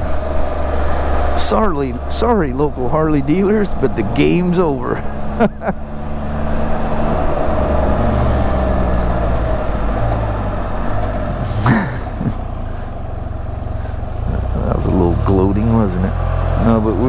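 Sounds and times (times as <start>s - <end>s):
motorcycle engine running: 0.0s - 17.0s
road noise: 0.0s - 17.0s.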